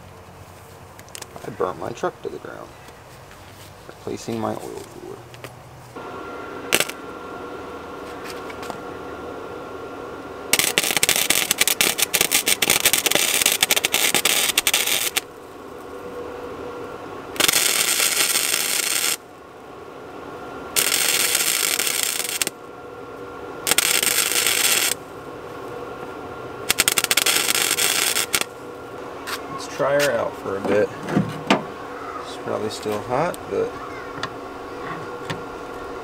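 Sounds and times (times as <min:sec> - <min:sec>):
arc welder crackling: 0:00.0 - 0:30.9, 0:32.4 - 0:36.0
welder hum: 0:01.4 - 0:36.0.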